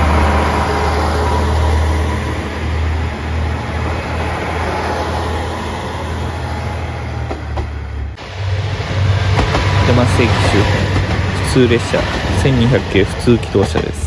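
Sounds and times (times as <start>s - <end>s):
diesel engine drone: 0.0s - 14.0s
train running noise: 0.0s - 14.0s.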